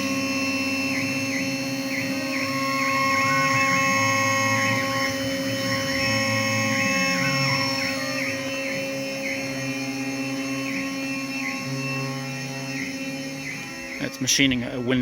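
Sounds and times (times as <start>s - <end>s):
cnc router whine: 0.0s - 15.0s.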